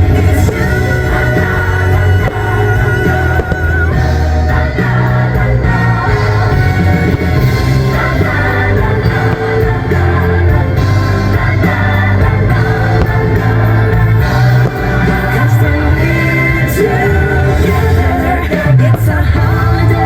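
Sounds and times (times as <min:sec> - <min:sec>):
christmas music with singing: 0:00.0 - 0:20.0.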